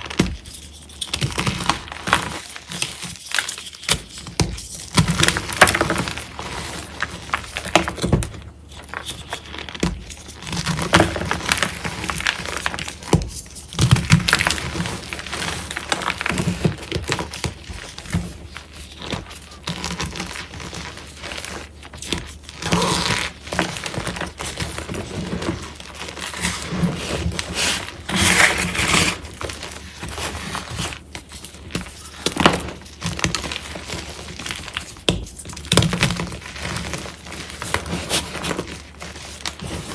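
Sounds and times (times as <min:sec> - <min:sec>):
chalk blocks crunching: 0:00.0 - 0:39.9.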